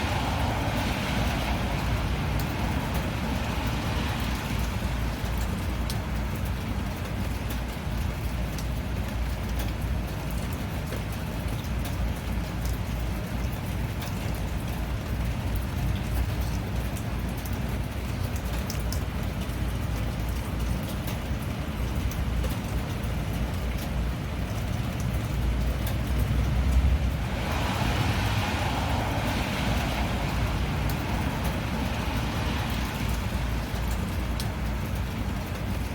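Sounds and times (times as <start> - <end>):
steady rain falling: 0.0 - 35.9
sharp raindrop ticks: 0.1 - 35.9.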